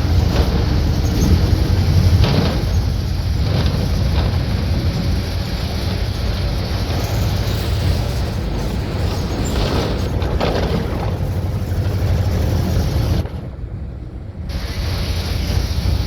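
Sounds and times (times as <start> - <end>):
bus diesel engine rumbling: 0.0 - 16.0
road and wind noise: 0.0 - 16.0.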